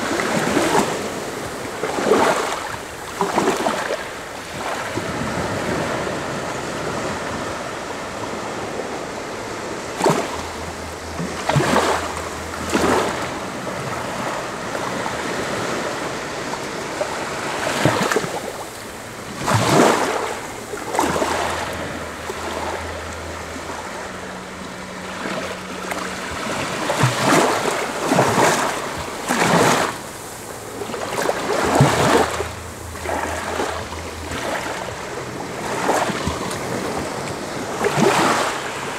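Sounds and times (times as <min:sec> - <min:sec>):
waves washing over sand: 0:00.0 - 0:38.9.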